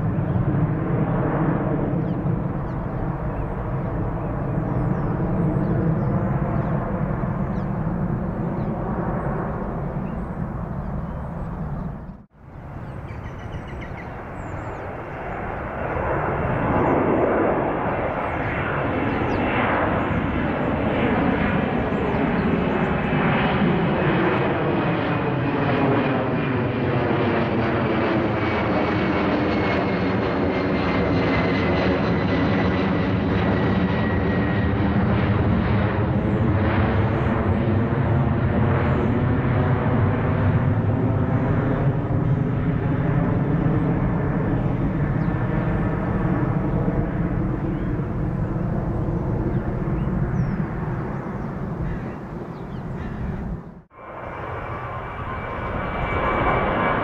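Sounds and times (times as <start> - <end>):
jet engines climbing: 0.0 - 57.0
jet engines rumbling overhead: 0.0 - 57.0.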